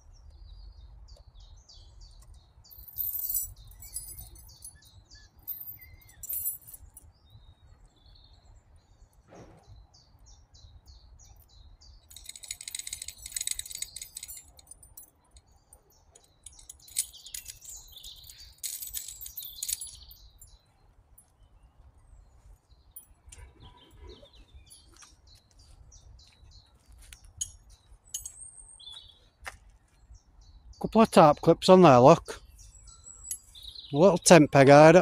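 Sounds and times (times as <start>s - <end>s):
songbirds chirping and singing: 0.0s - 35.0s.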